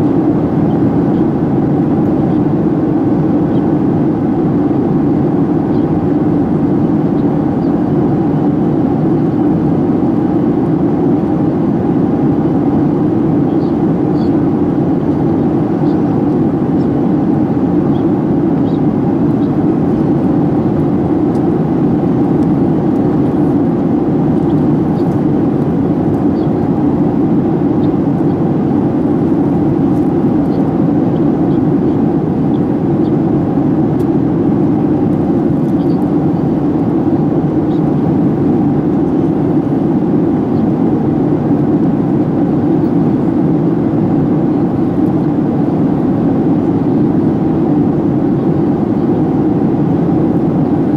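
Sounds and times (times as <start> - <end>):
jet engines droning: 0.0 - 50.9.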